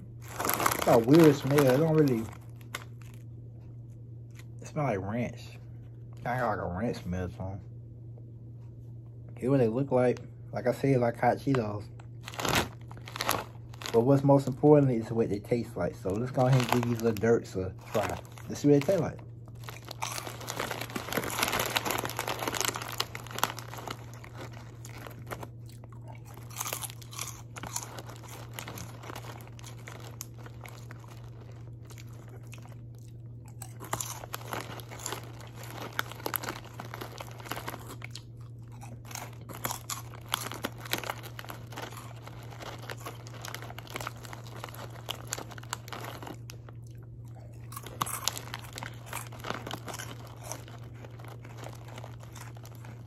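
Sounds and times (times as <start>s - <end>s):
crunching corn snacks: 0.0s - 3.7s, 9.9s - 53.0s.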